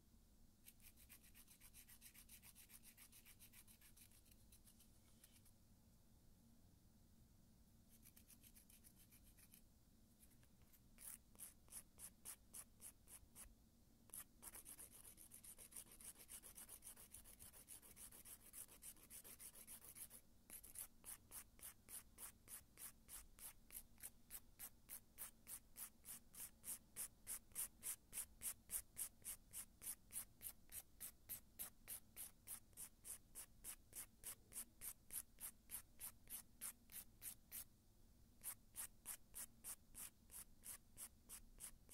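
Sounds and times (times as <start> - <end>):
nail file rasping on fingernail: 0.6 - 5.4, 7.9 - 9.6, 10.2 - 13.5, 14.1 - 37.7, 38.4 - 41.9.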